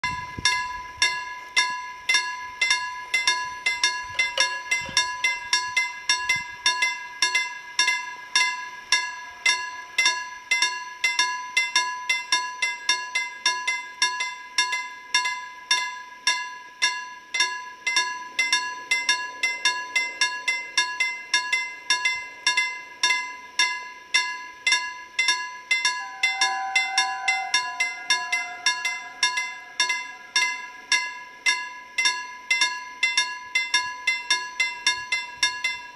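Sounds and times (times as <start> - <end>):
level crossing bell ringing: 0.0 - 35.9.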